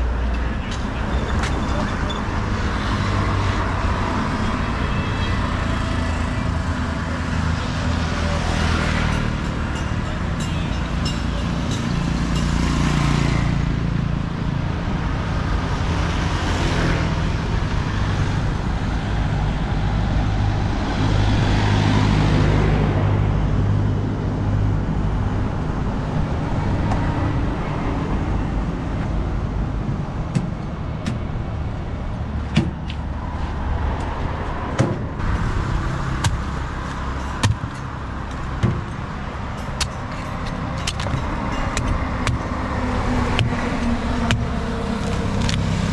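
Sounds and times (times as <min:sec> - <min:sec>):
vehicles passing: 0:00.0 - 0:45.9.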